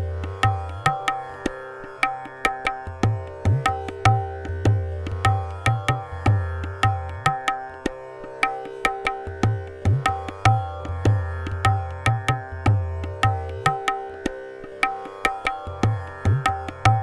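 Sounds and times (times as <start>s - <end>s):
tabla playing: 0.0s - 17.0s
tanpura drone: 0.0s - 17.0s.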